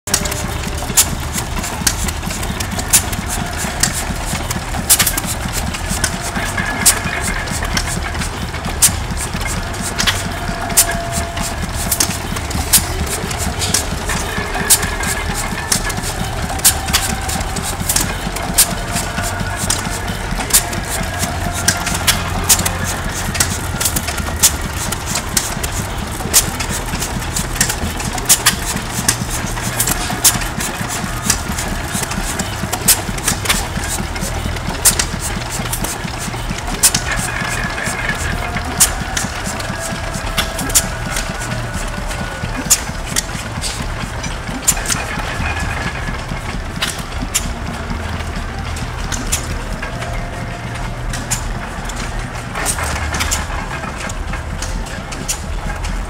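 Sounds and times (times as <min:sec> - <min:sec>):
sharp exhaust pops: 0:00.0 - 0:56.0
stationary engines chugging: 0:00.0 - 0:56.0.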